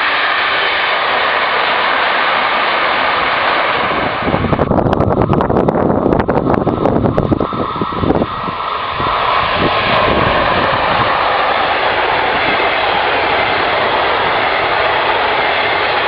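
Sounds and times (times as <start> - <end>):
train wheels rumbling on rail: 0.0 - 16.0
wind thumping on microphone: 0.8 - 16.0.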